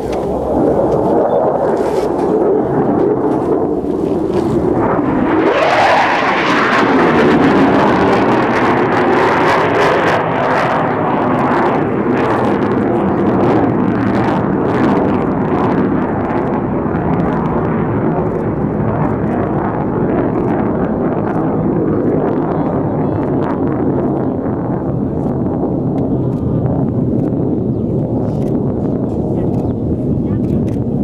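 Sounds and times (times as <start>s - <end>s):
fighter jet flying overhead: 0.0s - 31.0s.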